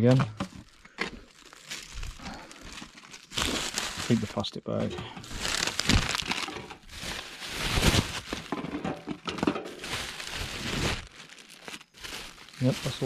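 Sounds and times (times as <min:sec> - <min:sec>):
knocks and crunches: 0:00.0 - 0:13.0
plastic bag crinkling: 0:00.0 - 0:13.0.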